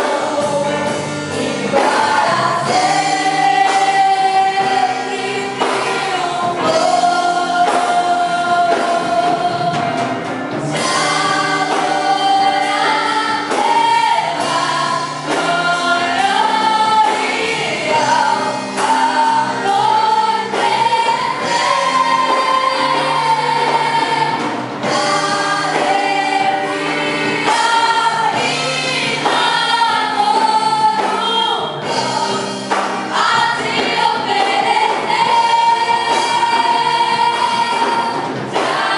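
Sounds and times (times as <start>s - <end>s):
band with steady beat: 0.0s - 38.9s
choir singing: 0.0s - 38.9s.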